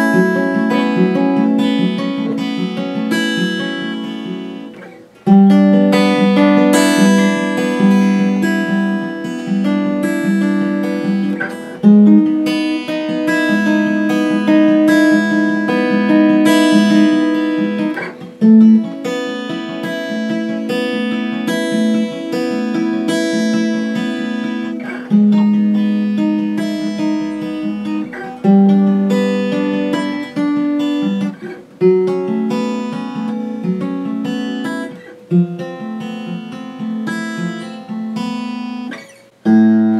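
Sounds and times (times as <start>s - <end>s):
acoustic guitar picked notes: 0.0s - 39.9s.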